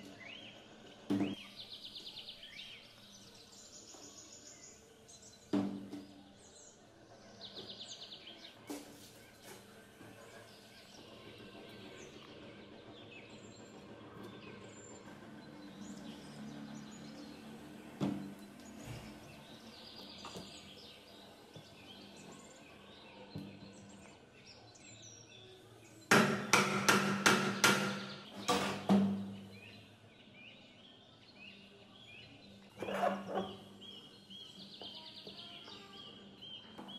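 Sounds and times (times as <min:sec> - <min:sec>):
faint birds chirping: 0:00.0 - 0:36.9.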